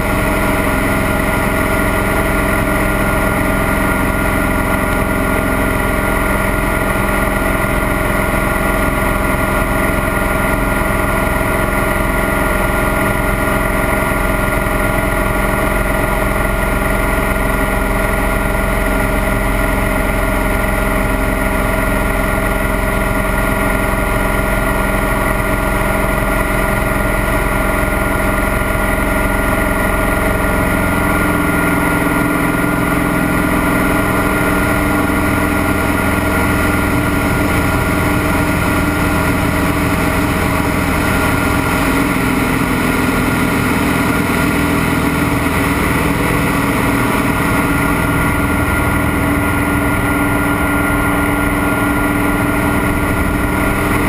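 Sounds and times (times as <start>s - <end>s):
piston engine and propeller droning: 0.0s - 54.0s.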